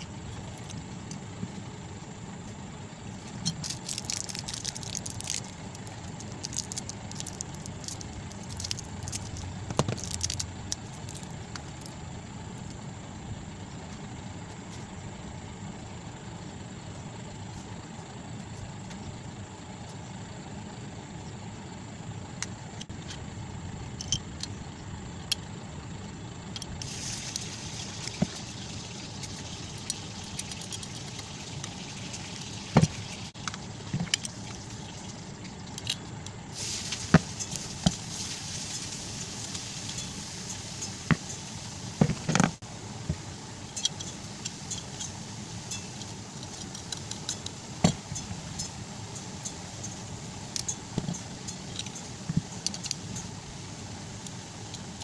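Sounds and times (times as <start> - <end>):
low background hum: 0.0 - 55.0.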